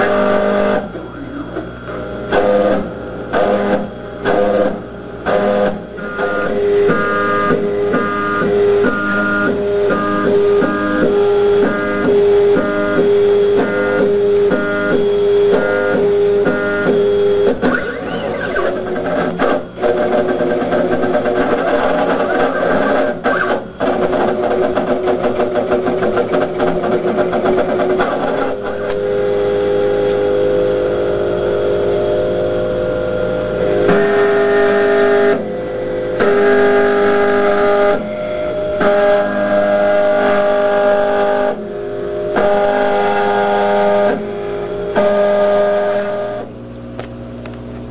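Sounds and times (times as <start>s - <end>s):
stepper motors whining: 0.0s - 47.1s
laser cutter buzzing: 0.0s - 47.8s
laser cutter humming: 0.0s - 47.8s.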